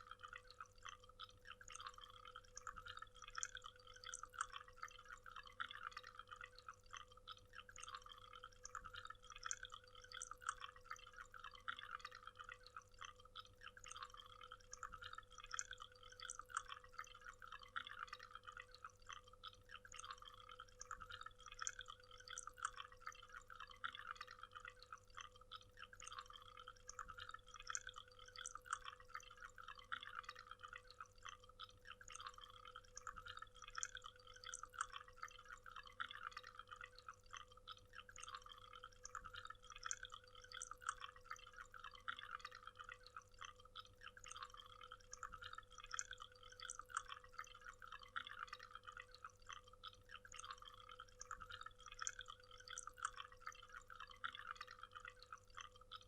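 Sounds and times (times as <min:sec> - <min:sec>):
thin steady hum: 0:00.0 - 0:56.0.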